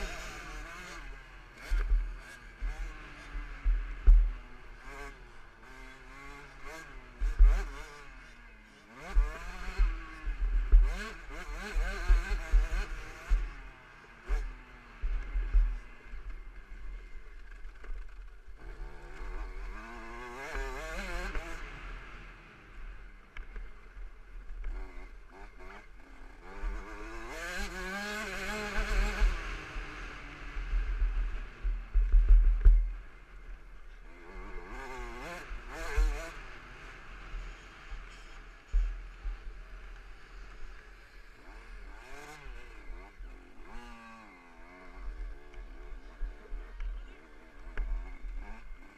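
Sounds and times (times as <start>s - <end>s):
two-stroke motocross engine revving: 0.0s - 48.9s.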